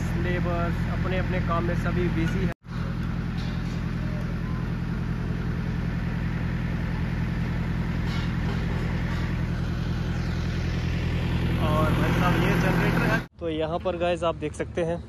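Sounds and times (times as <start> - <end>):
concrete pump engine drone: 0.0 - 14.8.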